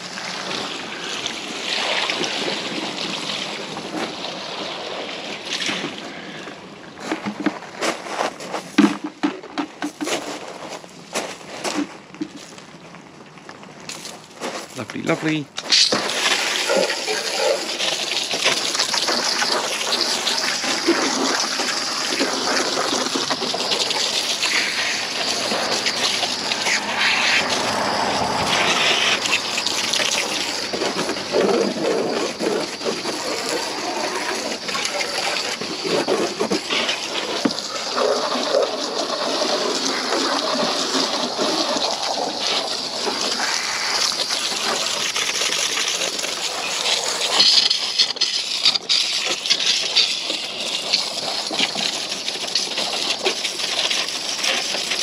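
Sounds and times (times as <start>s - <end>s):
water pouring and splashing: 0.0s - 55.0s.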